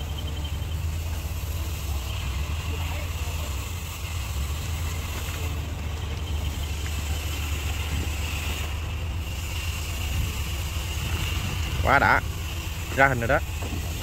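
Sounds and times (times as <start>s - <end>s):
motor humming with whine: 0.0s - 14.0s.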